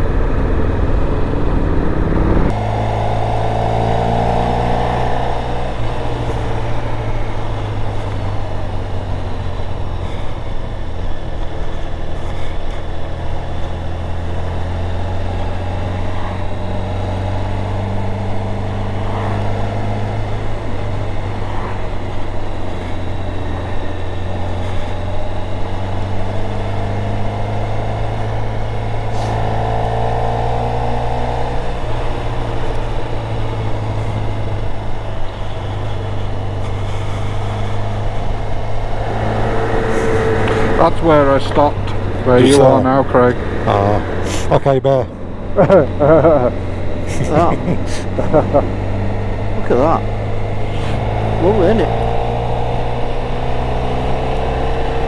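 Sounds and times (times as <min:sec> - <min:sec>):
engine whine: 0:00.0 - 0:55.0
motorcycle engine running: 0:00.0 - 0:55.0.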